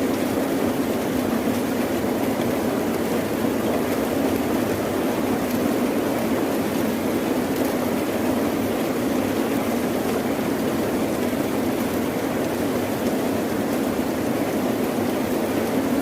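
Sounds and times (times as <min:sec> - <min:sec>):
rain: 0:00.0 - 0:16.0.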